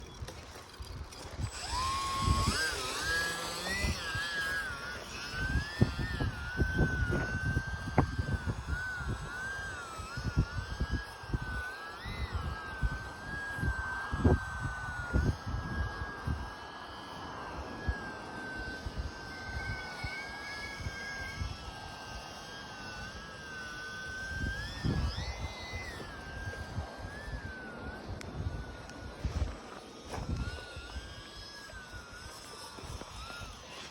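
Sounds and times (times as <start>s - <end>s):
model plane motor whining: 0.0s - 33.9s
wind buffeting microphone: 0.0s - 33.9s.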